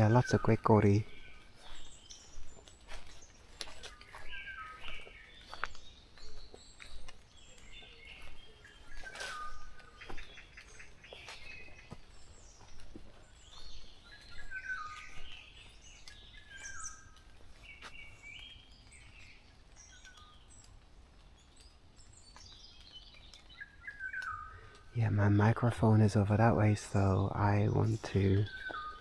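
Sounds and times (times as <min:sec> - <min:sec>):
wild birds singing: 0:00.0 - 0:29.0.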